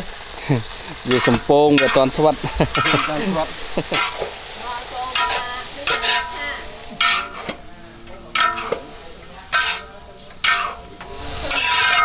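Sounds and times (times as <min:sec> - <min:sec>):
greens sizzling: 0:00.0 - 0:12.0
metal spatula scraping wok: 0:00.7 - 0:12.0.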